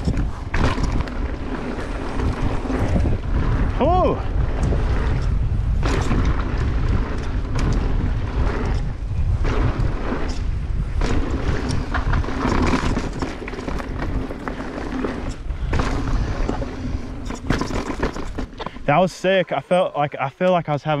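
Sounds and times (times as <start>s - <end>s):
bike clicks and rattles: 0.0s - 19.4s
bike tyres rumbling on dirt: 0.0s - 19.5s
wind buffeting microphone: 0.0s - 20.2s.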